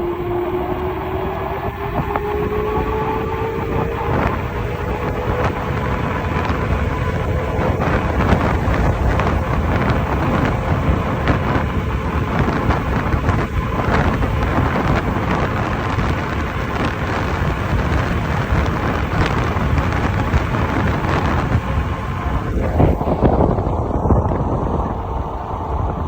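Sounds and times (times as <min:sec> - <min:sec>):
electric unicycle rumbling: 0:00.0 - 0:26.0
wind buffeting microphone: 0:00.0 - 0:26.0.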